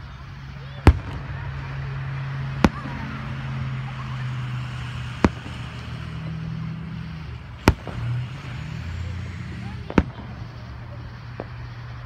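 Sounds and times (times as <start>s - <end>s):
vehicle engine idling: 0.0s - 12.0s
firework shell bursts: 0.1s - 12.0s.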